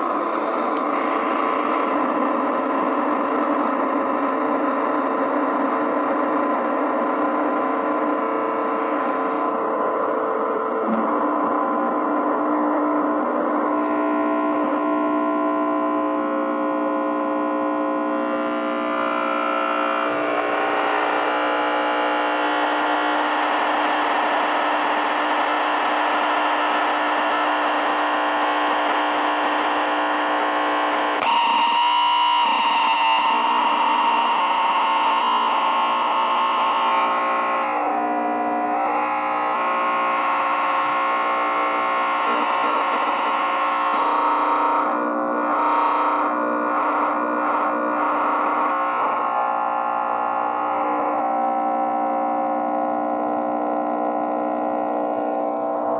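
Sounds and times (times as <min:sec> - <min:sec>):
distorted guitar amp buzz: 0:00.0 - 0:55.9.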